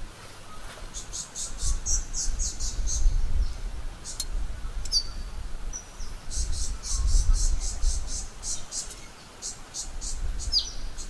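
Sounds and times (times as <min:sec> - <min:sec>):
birds chirping: 0:00.5 - 0:11.0.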